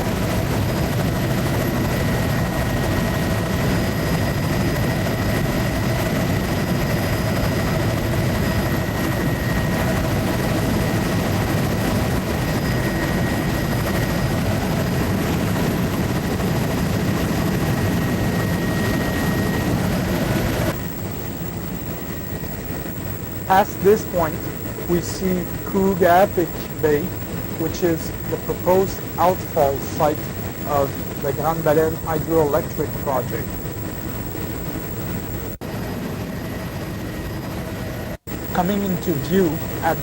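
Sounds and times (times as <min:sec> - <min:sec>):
aircraft engine drone from inside: 0:00.0 - 0:40.0.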